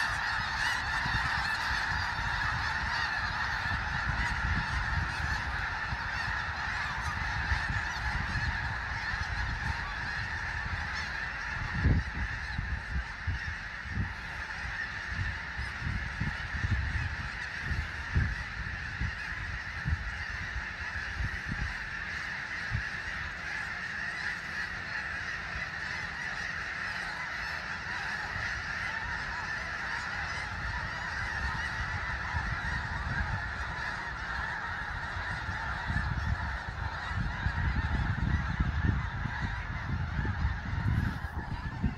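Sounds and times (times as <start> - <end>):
geese honking chorus: 0.0 - 41.9.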